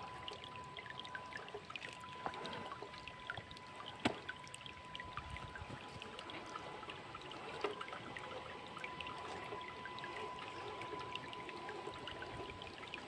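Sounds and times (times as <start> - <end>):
faint steady high tone: 0.0 - 13.0.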